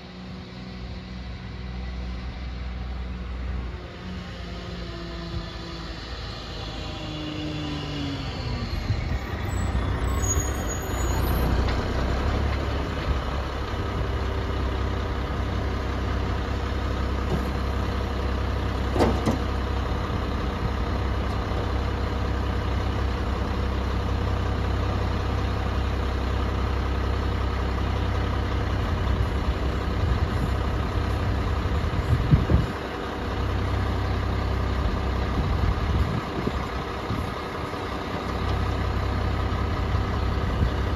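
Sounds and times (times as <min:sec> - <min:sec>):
garbage truck engine rumbling: 0:00.0 - 0:40.9.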